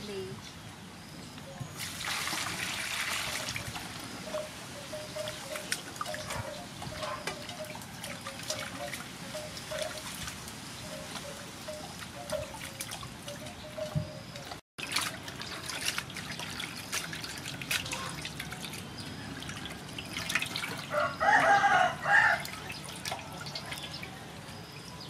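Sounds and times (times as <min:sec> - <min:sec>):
water splashing and trickling: 0:01.6 - 0:25.0.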